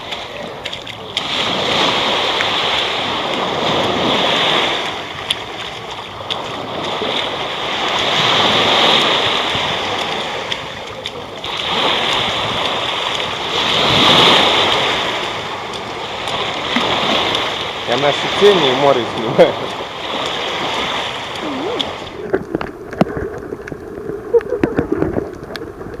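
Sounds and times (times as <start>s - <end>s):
sea water sloshing: 0.0s - 26.0s.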